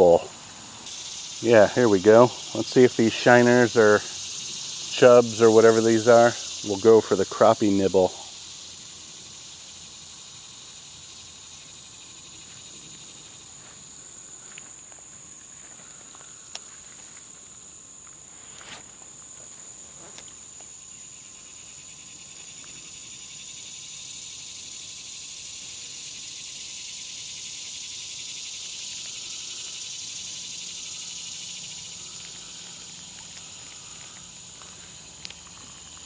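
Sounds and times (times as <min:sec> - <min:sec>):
insects high-pitched trill: 0:00.0 - 0:36.0
lower insect buzzing chorus: 0:00.0 - 0:36.0.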